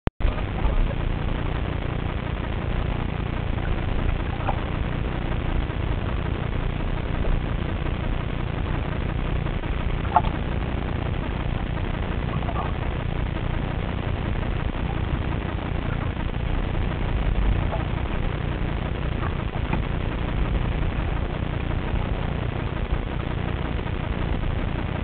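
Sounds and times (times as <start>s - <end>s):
underwater rumbling water: 0.2s - 25.0s.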